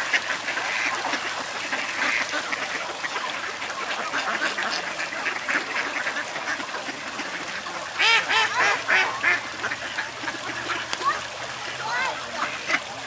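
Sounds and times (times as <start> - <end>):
ducks and geese calling: 0.0 - 13.0.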